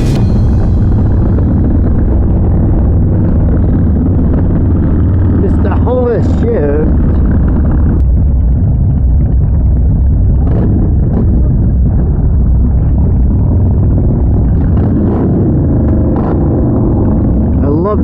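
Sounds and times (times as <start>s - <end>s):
motorcycle exhausts rumbling: 0.0s - 18.0s.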